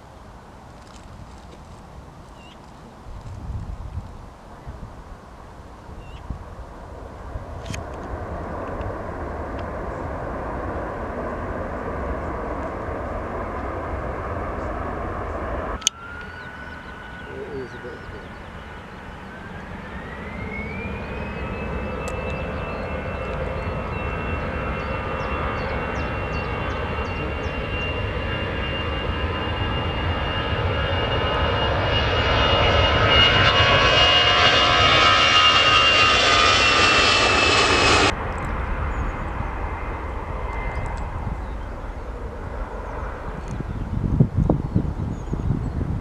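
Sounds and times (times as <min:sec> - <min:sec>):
jet engines whining: 0:00.0 - 0:46.0
low rumble: 0:03.0 - 0:46.0.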